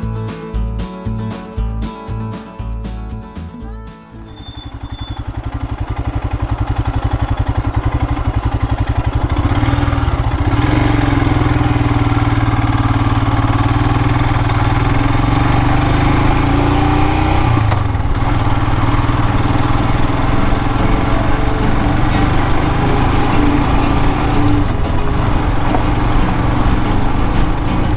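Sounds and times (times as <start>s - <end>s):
motorcycle engine running: 4.2s - 27.9s.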